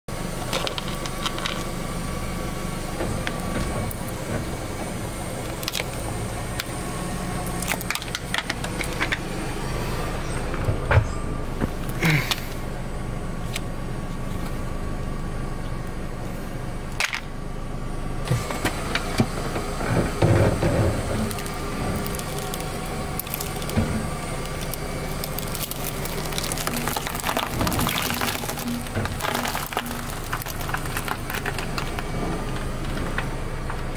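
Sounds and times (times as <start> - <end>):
car engine idling: 0.1 - 33.9
grit crackling under tyre: 0.3 - 12.7, 18.3 - 33.9.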